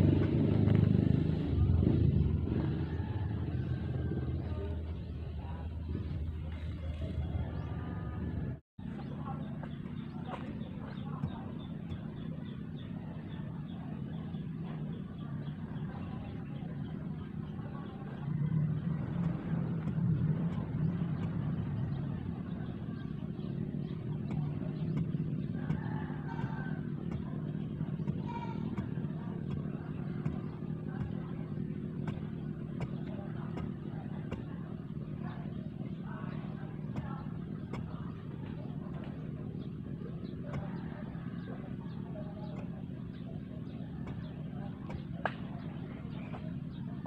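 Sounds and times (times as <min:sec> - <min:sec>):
engine humming: 0:00.0 - 0:47.0.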